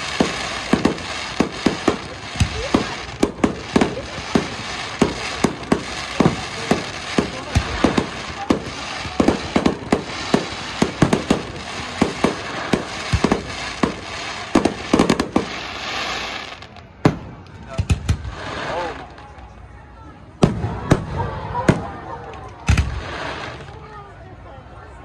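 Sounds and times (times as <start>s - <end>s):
fireworks bangs: 0.0s - 19.5s, 20.3s - 23.9s
fireworks crackle: 0.0s - 19.7s, 20.4s - 24.1s.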